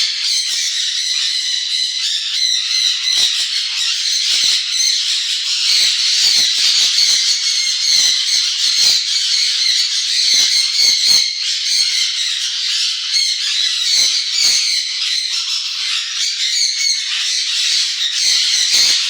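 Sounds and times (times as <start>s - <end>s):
parrots squawking and chattering: 0.0s - 19.0s.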